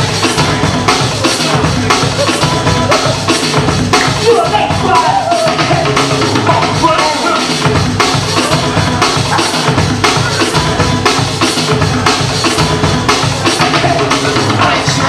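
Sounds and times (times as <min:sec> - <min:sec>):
drum-heavy music over sound system: 0:00.0 - 0:15.0.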